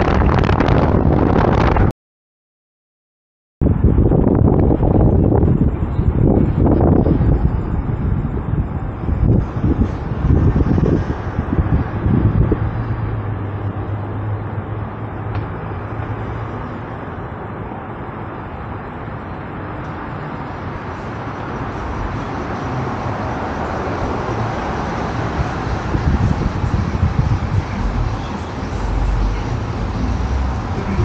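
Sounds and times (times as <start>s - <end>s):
road noise: 0.0s - 1.9s, 3.6s - 31.0s
low engine hum: 3.6s - 31.0s.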